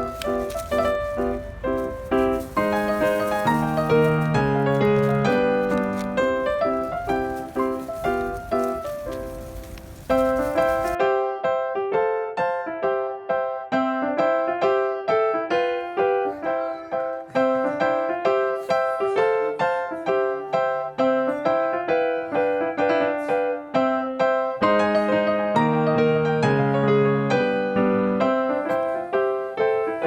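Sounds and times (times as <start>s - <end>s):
gentle piano tune: 0.0s - 30.0s.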